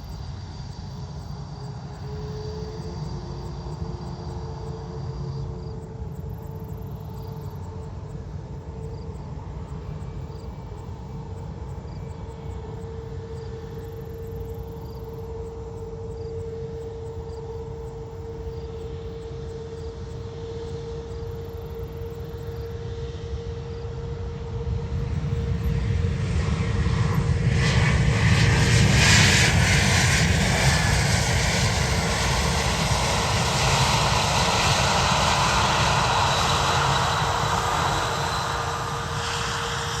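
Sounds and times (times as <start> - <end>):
jet airliner engines: 0.0 - 40.0.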